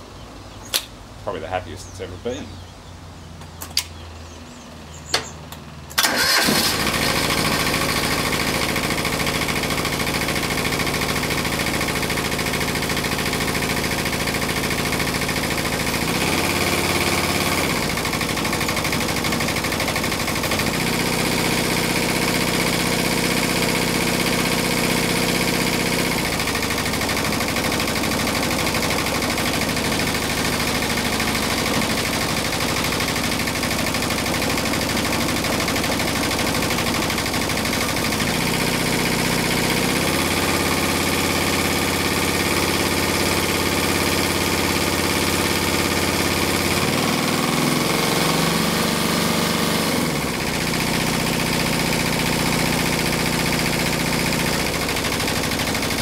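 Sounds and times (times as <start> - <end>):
diesel engine running: 1.0 - 56.0.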